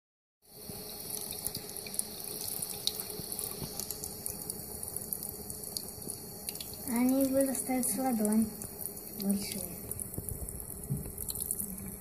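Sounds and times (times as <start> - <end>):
tap water running into sink: 0.7 - 12.0.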